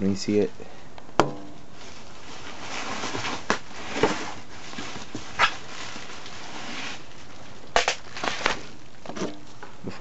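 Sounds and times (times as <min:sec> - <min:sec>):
bubble wrap and cardboard rustling: 0:01.3 - 0:10.0
sharp crackles: 0:01.5 - 0:09.7.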